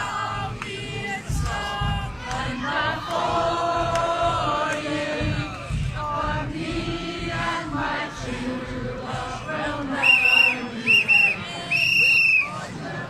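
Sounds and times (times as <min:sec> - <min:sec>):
crowd singing in unison: 0:00.0 - 0:13.0.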